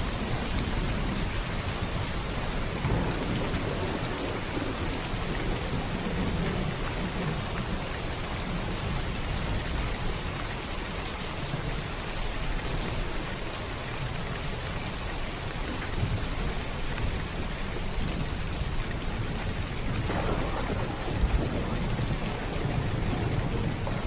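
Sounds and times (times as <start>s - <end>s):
low rumble of thunder: 0.0s - 11.9s, 12.6s - 24.0s
heavy rain on a roof: 0.0s - 24.0s.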